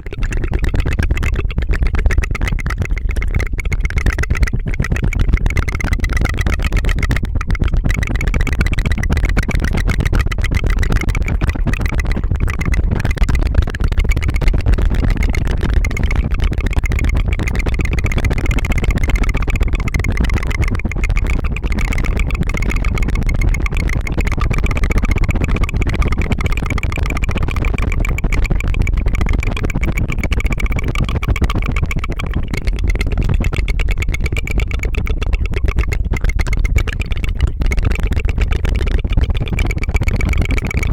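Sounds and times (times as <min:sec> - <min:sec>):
rolled-tongue trill: 0:00.0 - 0:40.9.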